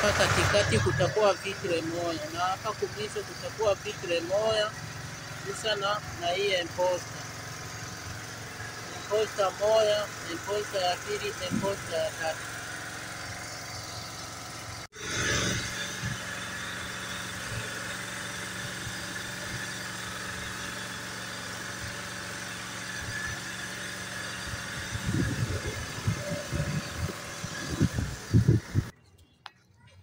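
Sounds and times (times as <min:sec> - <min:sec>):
engine idling with low hum: 0:00.0 - 0:30.0.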